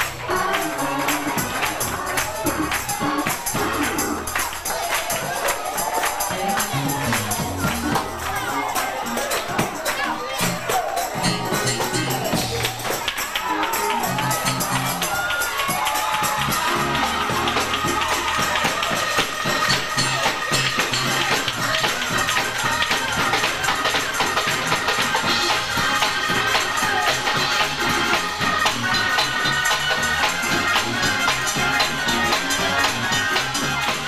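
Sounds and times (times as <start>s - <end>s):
repeating bass line: 0.0s - 4.7s, 6.3s - 12.9s, 13.8s - 15.3s, 16.2s - 34.0s
drum kit beat: 0.0s - 34.0s
hand clapping: 0.0s - 34.0s
tambourine: 0.0s - 34.0s.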